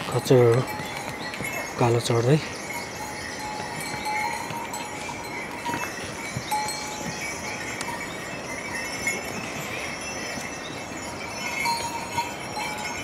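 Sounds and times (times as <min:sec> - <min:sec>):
hooves knocking on rock: 0:00.0 - 0:10.6
mule bells ringing: 0:00.0 - 0:13.0.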